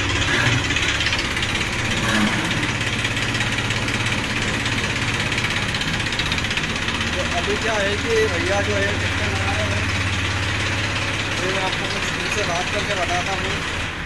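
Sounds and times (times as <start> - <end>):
diesel engine clattering: 0.0 - 14.0.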